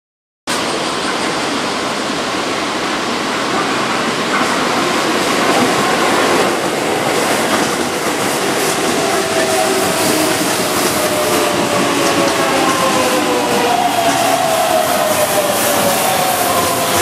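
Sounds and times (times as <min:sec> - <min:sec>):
train wheels rushing on rail: 0:00.5 - 0:17.0.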